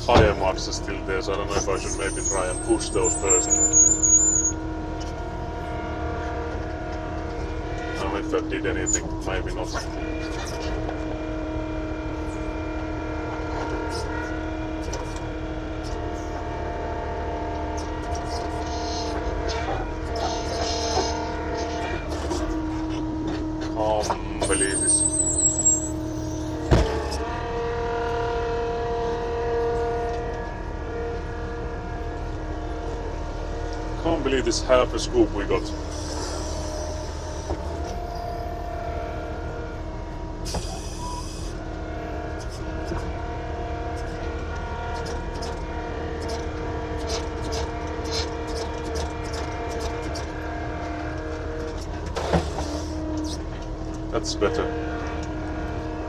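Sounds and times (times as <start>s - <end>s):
earthmoving machine engine: 0.0s - 56.0s.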